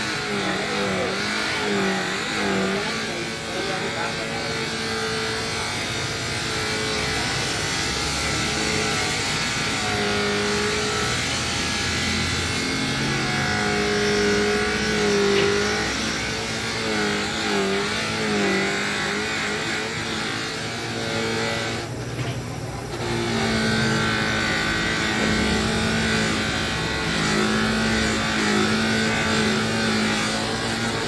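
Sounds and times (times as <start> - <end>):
electric polishing machine hum: 0.0 - 31.0.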